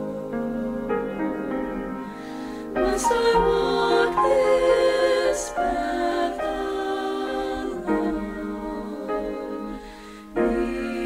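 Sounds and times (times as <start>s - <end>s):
musical accompaniment: 0.0s - 11.0s
vocal trio singing christmas song: 0.0s - 11.0s.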